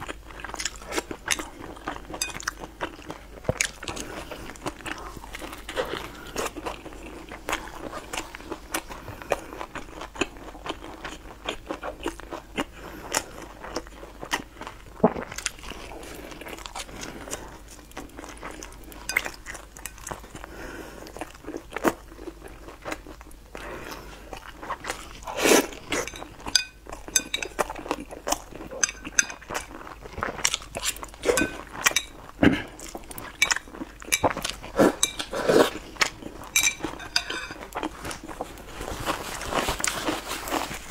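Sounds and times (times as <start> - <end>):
crunching and chewing food: 0.0 - 40.9.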